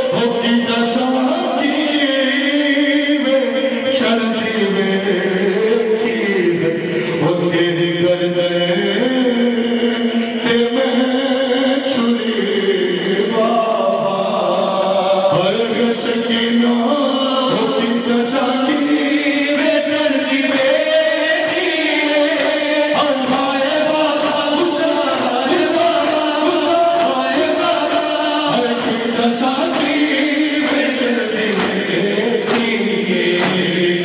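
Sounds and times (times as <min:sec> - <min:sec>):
man chanting a lament: 0:00.0 - 0:34.0
voices singing along: 0:00.0 - 0:34.0.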